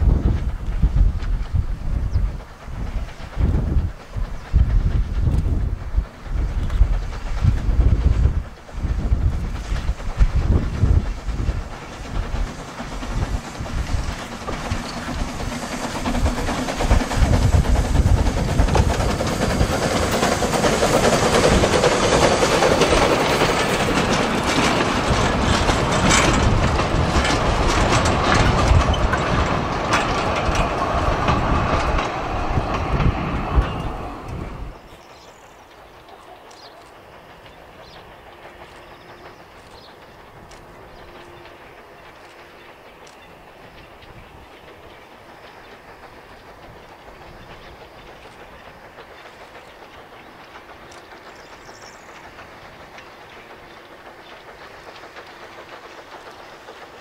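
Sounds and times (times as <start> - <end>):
steam train rumbling past: 0.0 - 57.0
wheels clattering over rail joints: 0.0 - 57.0.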